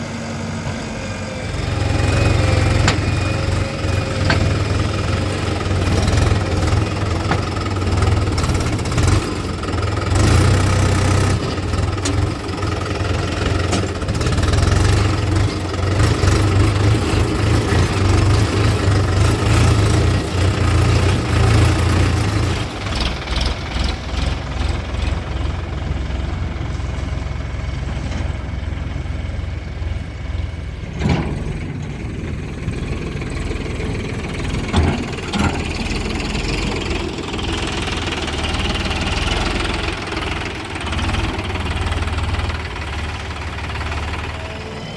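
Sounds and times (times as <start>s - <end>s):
diesel engines running: 0.0s - 44.9s.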